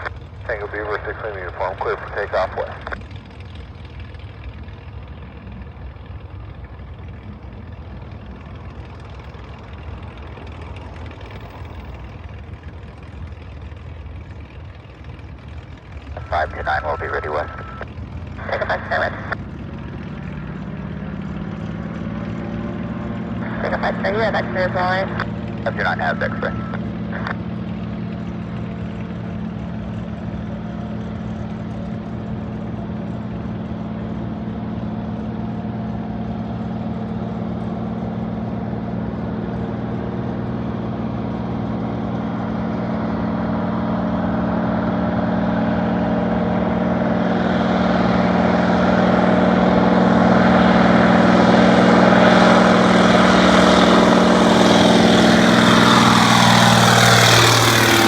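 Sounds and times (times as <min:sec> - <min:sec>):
floatplane engine and propeller: 0:00.0 - 0:58.0.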